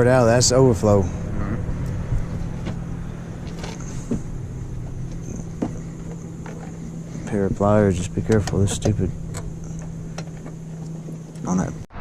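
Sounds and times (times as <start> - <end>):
low electrical hum: 0.0 - 11.9.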